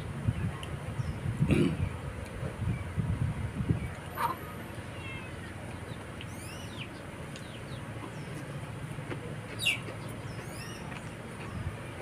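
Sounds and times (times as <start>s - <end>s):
steady low rumble: 0.0s - 12.0s
small birds chirping: 0.4s - 3.0s, 3.7s - 12.0s.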